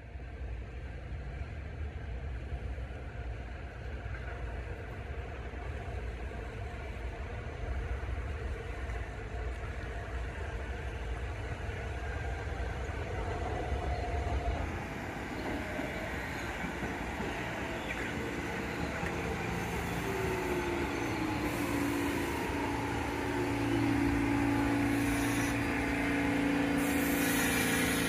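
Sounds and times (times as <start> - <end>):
faint train whine: 0.0 - 28.0
subway train rumble: 0.0 - 28.0.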